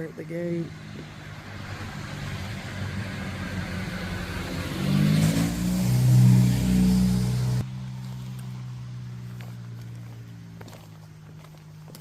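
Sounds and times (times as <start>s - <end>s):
vehicle engine rising in pitch: 0.7s - 11.0s.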